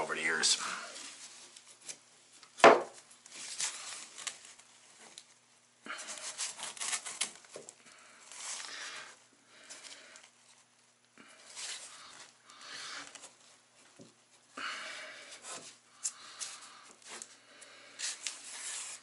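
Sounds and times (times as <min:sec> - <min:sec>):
hands scraping and rustling materials: 0:00.3 - 0:14.5, 0:15.2 - 0:19.0.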